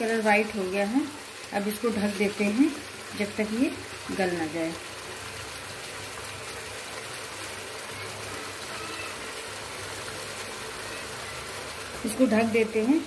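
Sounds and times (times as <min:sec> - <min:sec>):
gravy bubbling and sizzling: 0:00.0 - 0:13.0.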